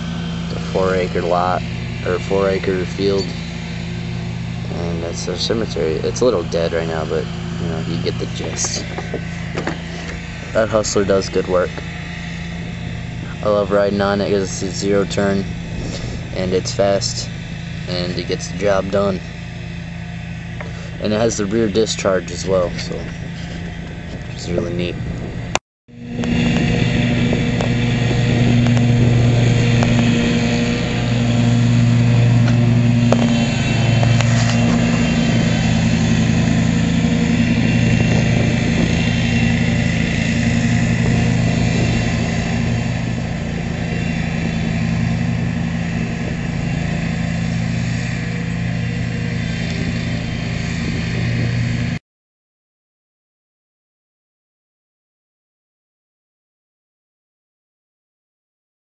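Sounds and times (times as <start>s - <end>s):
lawn mower engine running: 0.0s - 52.0s.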